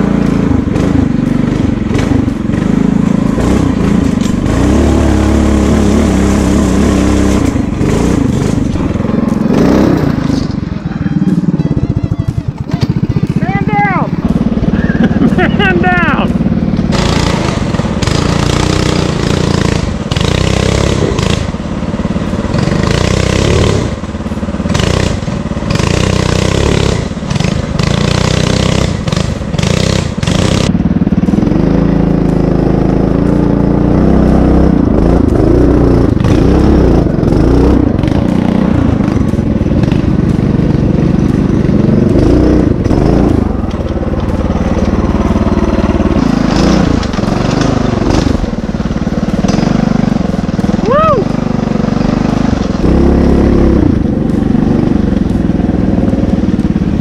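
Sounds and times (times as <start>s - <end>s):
loud rushing noise: 0.0s - 57.0s
motorcycle engine under load: 0.0s - 57.0s.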